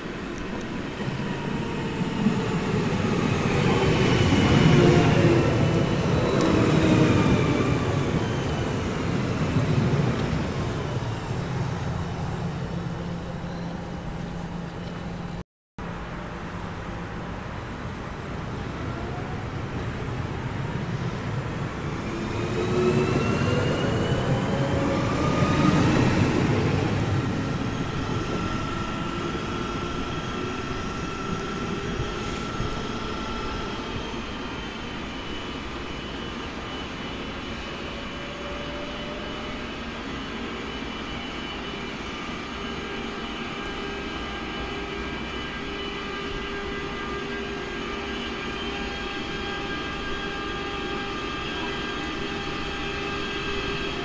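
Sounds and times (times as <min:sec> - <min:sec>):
electric locomotive whine: 0:00.0 - 0:54.0
train rumbling past: 0:00.0 - 0:54.0.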